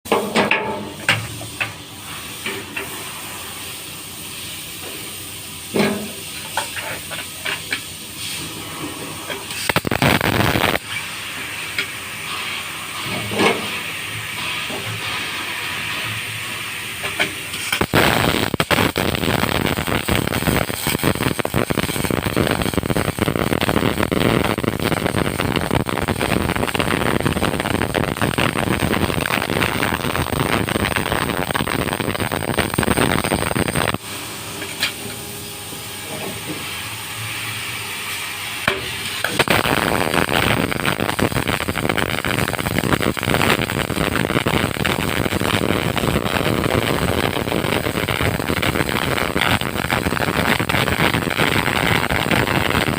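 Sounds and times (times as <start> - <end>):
steady hiss: 0.2 - 52.9
welding arc crackling: 1.0 - 52.9.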